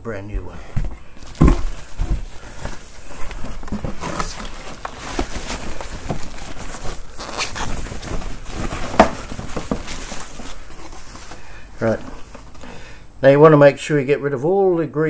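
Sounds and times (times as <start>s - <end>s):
plastic bag rustling: 0.3s - 12.9s.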